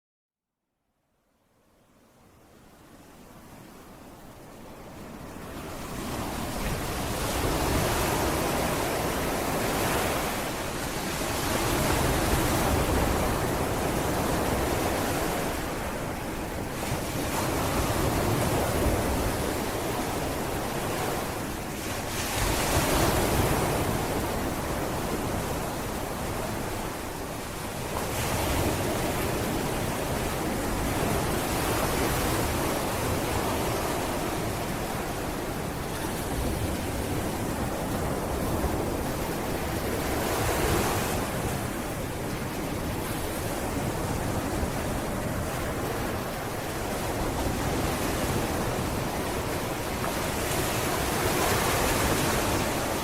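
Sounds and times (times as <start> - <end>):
sea waves breaking on beach: 2.8 - 53.0
wind on the microphone: 2.8 - 53.0.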